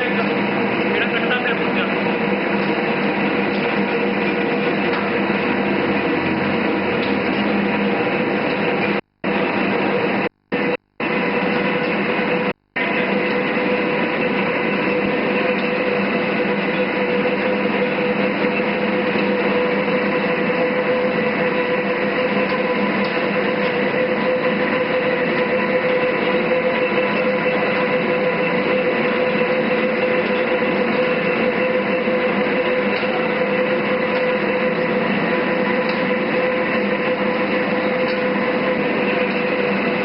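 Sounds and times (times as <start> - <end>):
lathe running with whine: 0.0 - 40.0.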